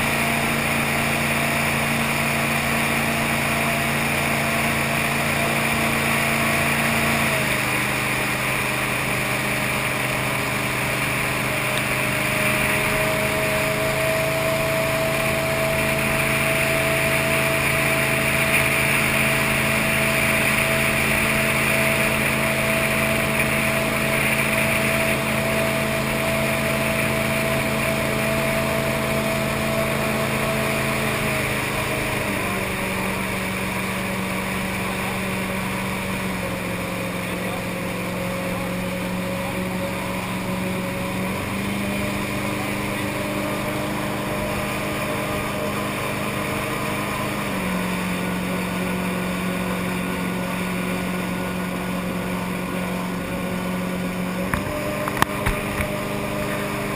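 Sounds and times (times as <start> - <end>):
boat engine running: 0.0 - 56.9
rushing water hiss: 0.0 - 56.9.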